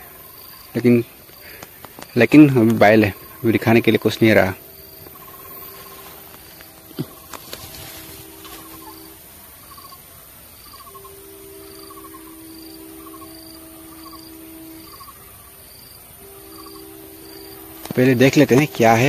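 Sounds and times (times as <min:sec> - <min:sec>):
low steady drone: 0:00.0 - 0:19.0
rustle of undergrowth: 0:00.0 - 0:19.0.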